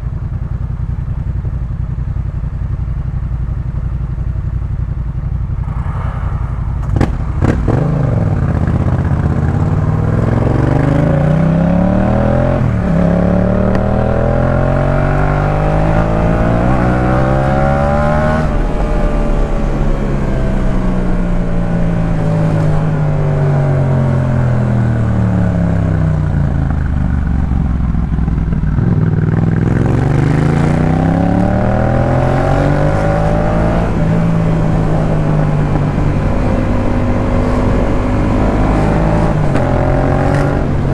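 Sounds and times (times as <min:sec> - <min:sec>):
motorcycle engine revving: 0:01.3 - 0:40.9.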